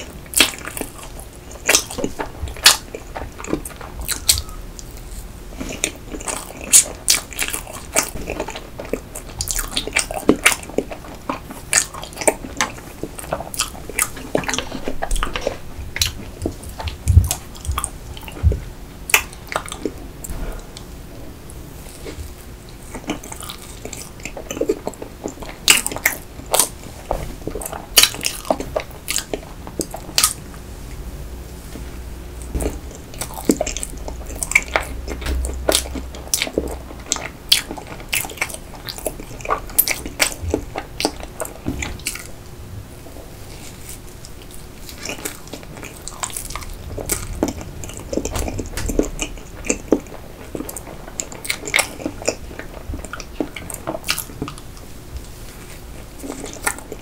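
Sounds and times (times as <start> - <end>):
biting and chewing cake: 0.0 - 30.7, 32.4 - 42.6, 43.3 - 57.0.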